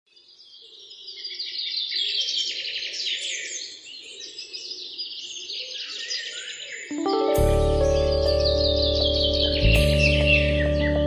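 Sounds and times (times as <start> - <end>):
small birds chirping and trilling: 0.1 - 11.0.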